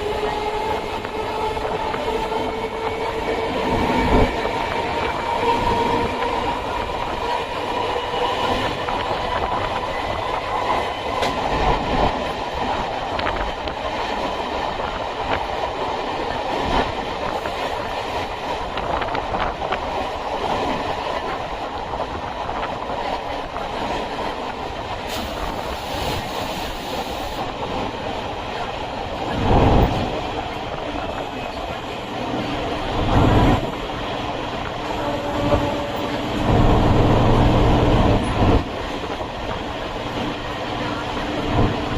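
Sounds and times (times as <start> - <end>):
electric train rumbling: 0.0 - 41.9.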